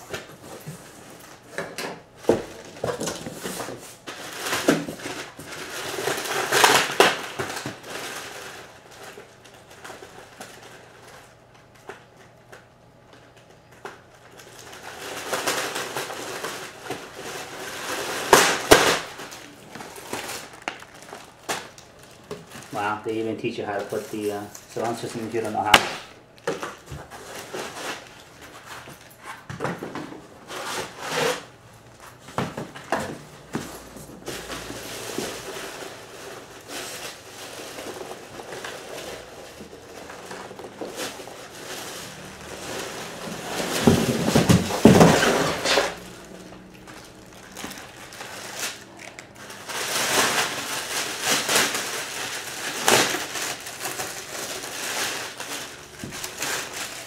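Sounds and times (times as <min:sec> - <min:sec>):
packaging rustling and crinkling: 0:00.0 - 0:57.0.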